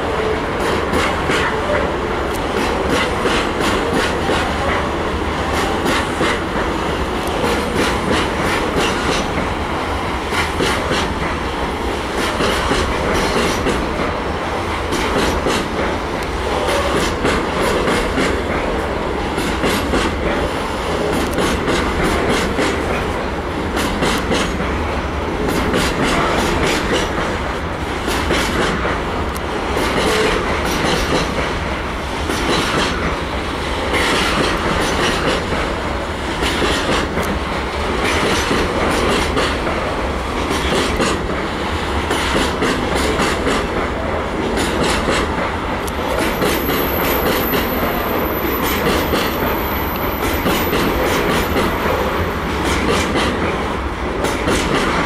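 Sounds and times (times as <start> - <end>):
train wheels clattering over rail joints: 2.3 - 4.9, 5.5 - 9.6, 10.2 - 11.5, 12.1 - 14.2, 14.9 - 55.0.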